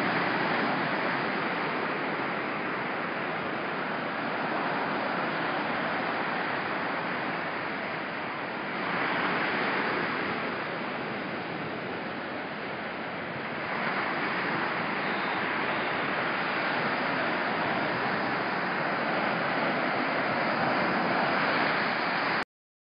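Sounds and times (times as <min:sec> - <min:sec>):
waves breaking on shore: 0:00.0 - 0:22.4.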